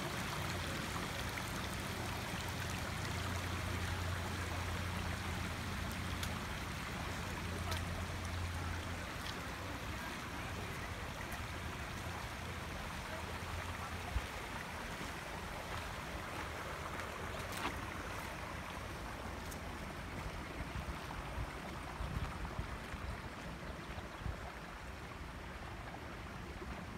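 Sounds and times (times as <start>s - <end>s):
water babbling over stones: 0.0s - 26.9s.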